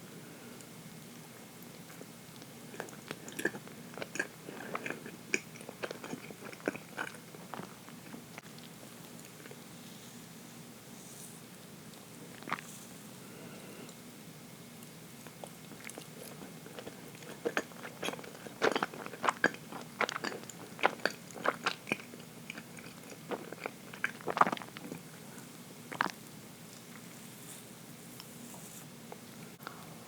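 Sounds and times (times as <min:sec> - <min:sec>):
chewing cake: 0:01.0 - 0:09.8, 0:11.8 - 0:12.7, 0:14.7 - 0:29.9.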